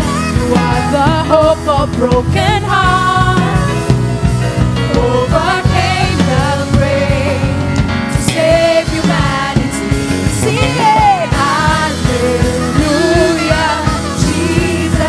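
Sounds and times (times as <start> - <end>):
gospel singers with band: 0.0 - 15.0.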